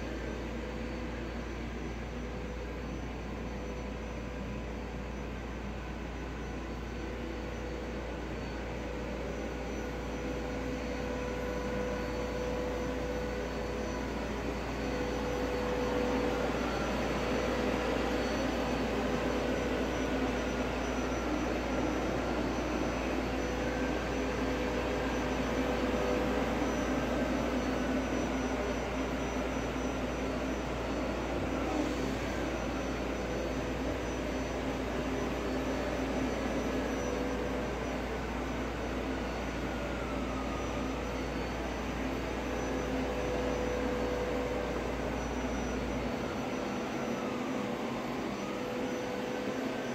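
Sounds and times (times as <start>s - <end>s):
faint wavering high tone: 0.0s - 49.9s
mechanical drone: 0.0s - 49.9s.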